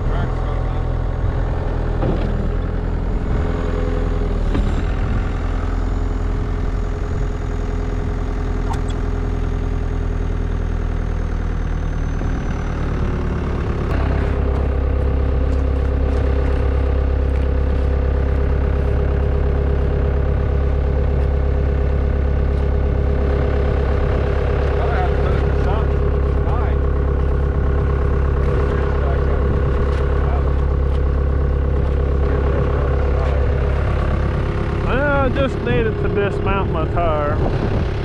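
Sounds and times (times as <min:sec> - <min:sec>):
skid steer engine running: 0:00.0 - 0:38.0.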